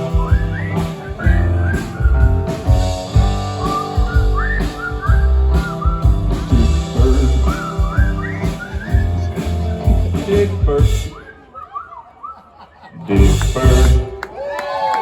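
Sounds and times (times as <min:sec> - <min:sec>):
rock band playing: 0:00.0 - 0:11.3, 0:13.2 - 0:14.1
whistled melody: 0:00.0 - 0:12.5.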